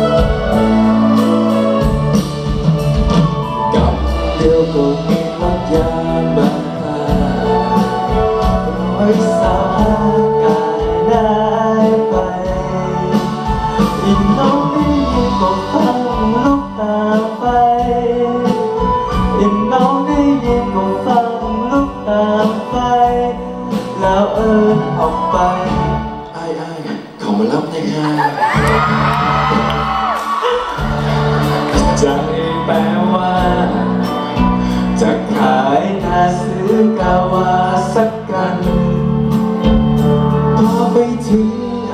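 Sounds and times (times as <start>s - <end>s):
live band playing: 0.0s - 41.9s
man singing into microphone: 3.7s - 28.6s, 31.6s - 39.4s, 40.3s - 41.9s.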